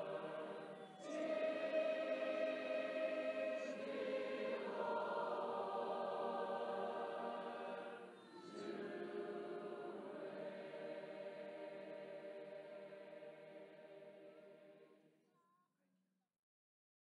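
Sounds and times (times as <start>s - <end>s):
congregation singing a hymn: 0.0s - 14.8s.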